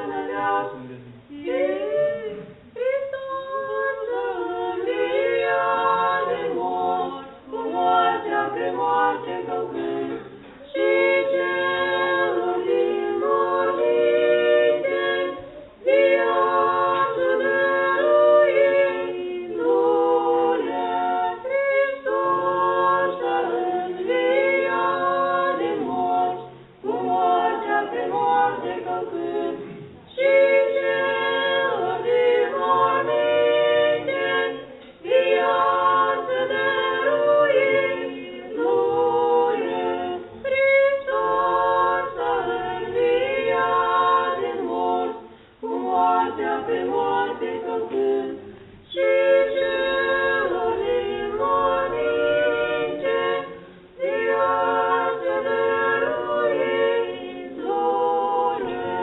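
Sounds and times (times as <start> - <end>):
unaccompanied choir chanting: 0.0 - 59.0.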